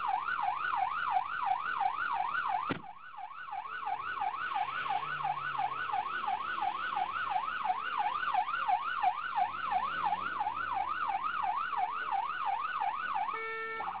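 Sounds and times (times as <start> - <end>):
police siren yelping: 0.0 - 14.0.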